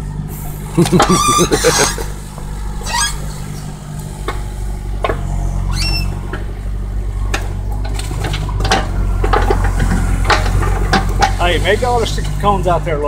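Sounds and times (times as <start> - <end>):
excavator diesel engine running: 0.0 - 13.0
high rising squeaks: 0.8 - 12.2.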